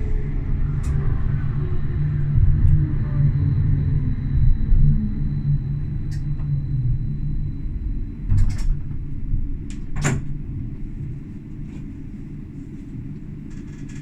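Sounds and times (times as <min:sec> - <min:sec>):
faint high whine: 0:00.0 - 0:13.0
tram running rumble: 0:00.0 - 0:14.0.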